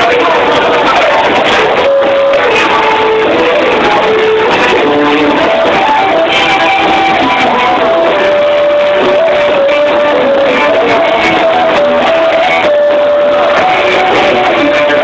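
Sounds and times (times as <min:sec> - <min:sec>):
live rock band playing: 0:00.0 - 0:15.0
melody of long held notes: 0:00.0 - 0:15.0.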